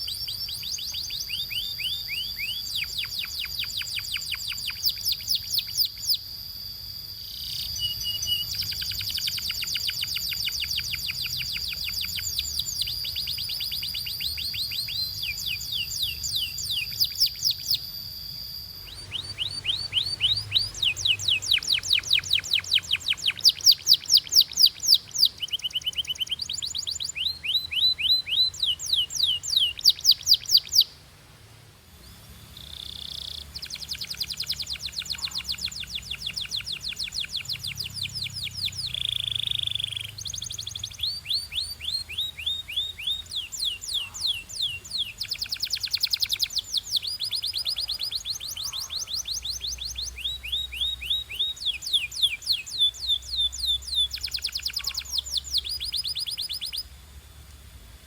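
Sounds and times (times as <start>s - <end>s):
canary singing: 0.0s - 31.0s, 32.0s - 57.0s.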